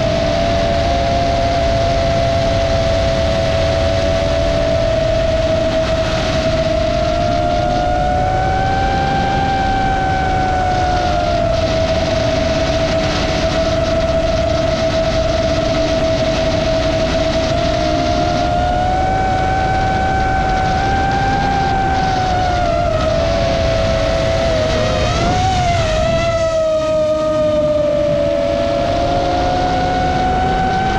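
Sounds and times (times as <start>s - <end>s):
drone propellers whining: 0.0s - 30.9s
rushing wind noise: 0.0s - 30.9s.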